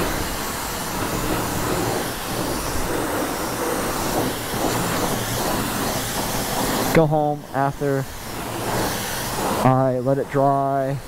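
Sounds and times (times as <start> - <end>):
pressure washer spraying water: 0.0 - 11.0.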